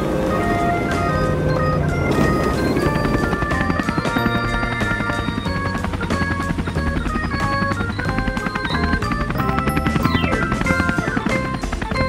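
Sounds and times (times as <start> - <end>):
upbeat synth music with drums: 0.0 - 12.0.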